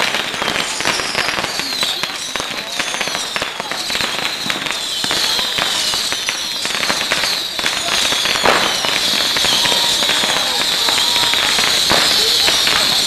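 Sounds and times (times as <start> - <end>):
bottle rockets whistling: 0.0 - 13.0.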